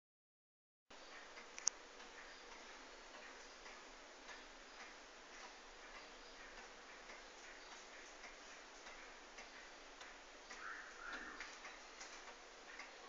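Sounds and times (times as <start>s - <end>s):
pendulum clock ticking: 1.0s - 13.0s.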